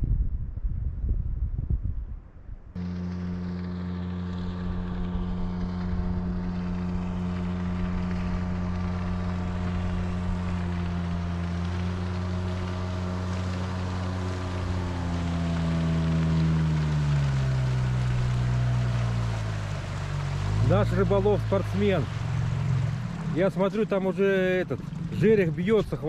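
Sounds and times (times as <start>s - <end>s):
wind: 0.0s - 26.0s
water hissing: 2.8s - 25.6s
outboard motor droning: 2.8s - 26.0s.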